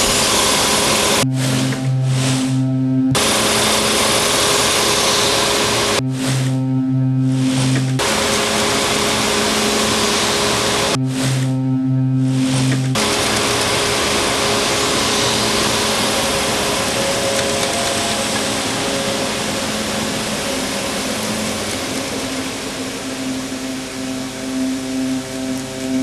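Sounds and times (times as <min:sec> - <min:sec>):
rushing machine-like noise: 0:00.0 - 0:26.0
soft sustained music tones: 0:00.0 - 0:26.0.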